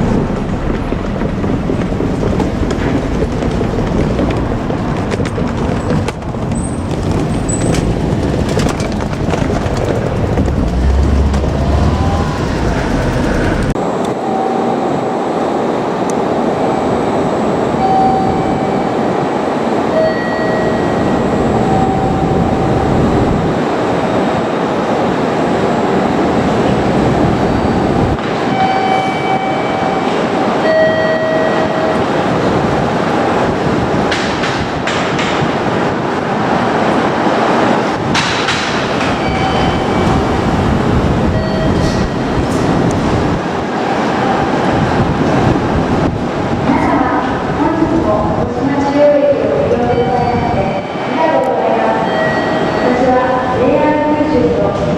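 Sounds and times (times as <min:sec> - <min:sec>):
electric train wheels rumbling: 0:00.0 - 0:54.9.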